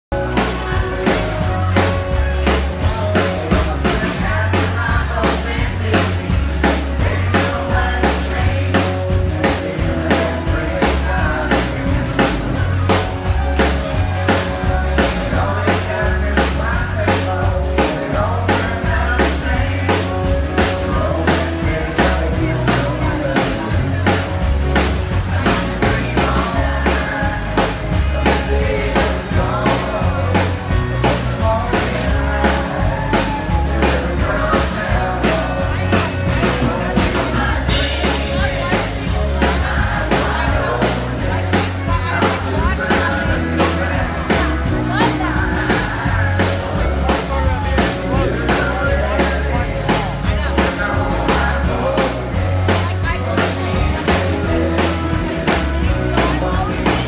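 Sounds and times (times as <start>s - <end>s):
bass and guitars: 0.0s - 57.0s
male lead vocal: 0.0s - 57.0s
drum kit beat: 0.1s - 57.0s.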